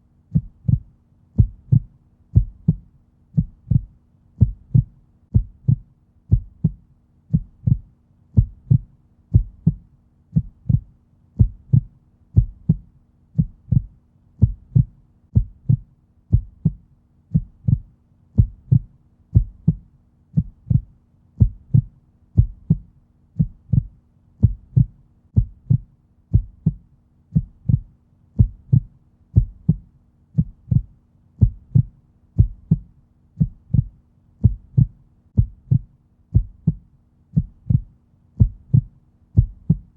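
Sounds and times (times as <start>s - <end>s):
heartbeat thumps: 0.3s - 39.9s.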